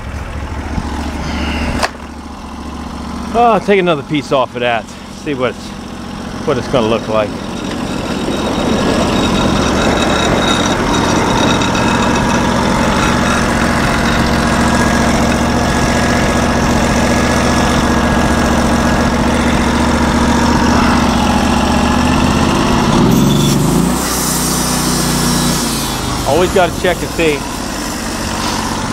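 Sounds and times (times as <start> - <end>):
gas engine running under load: 0.0 - 28.9
band saw blade cutting log: 3.3 - 28.9.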